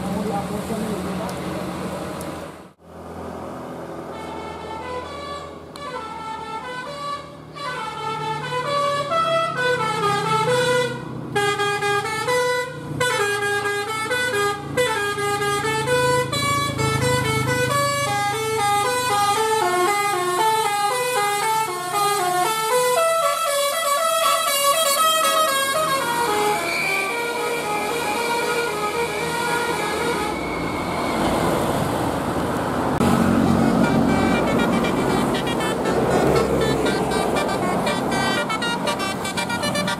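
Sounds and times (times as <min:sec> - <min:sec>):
bus engine rumble: 0:00.0 - 0:39.9
musical air horn melody: 0:04.1 - 0:31.1, 0:33.0 - 0:39.9.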